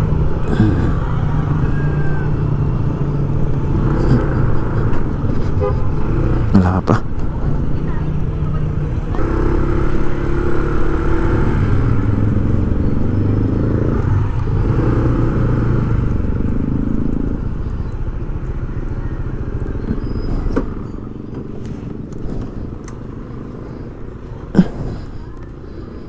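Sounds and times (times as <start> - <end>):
road noise: 0.0 - 26.0
vehicle engine revving: 0.0 - 26.0.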